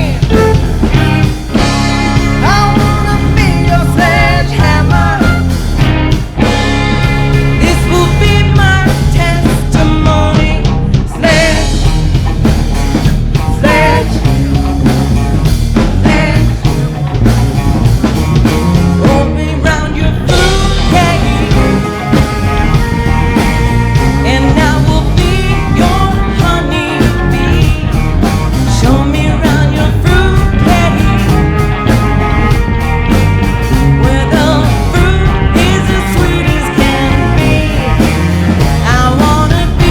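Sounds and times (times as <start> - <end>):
person singing: 0.0 - 6.7, 7.4 - 12.2, 13.5 - 14.6, 15.8 - 17.0, 19.0 - 39.9
electric guitar: 0.0 - 39.9
live rock band: 0.0 - 39.9.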